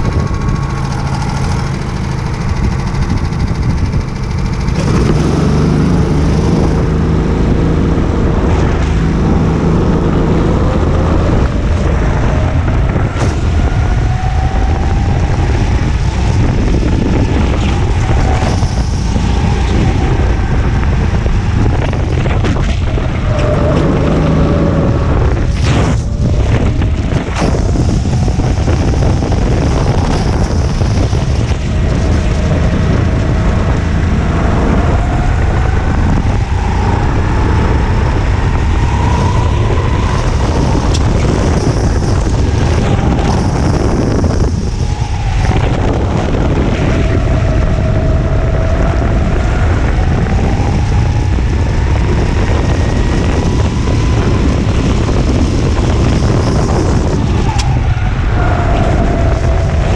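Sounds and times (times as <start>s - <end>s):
go-kart engine racing: 0.0s - 59.9s
wind buffeting microphone: 0.0s - 59.9s.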